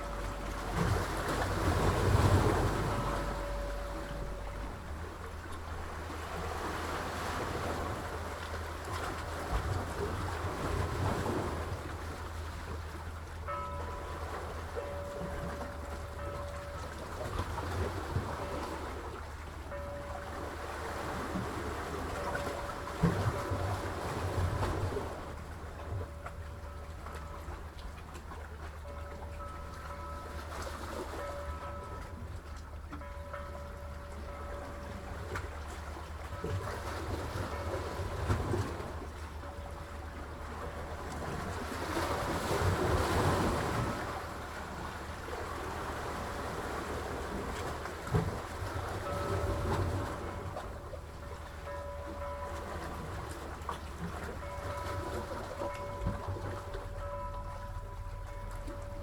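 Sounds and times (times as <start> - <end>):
sea waves washing: 0.0 - 59.0.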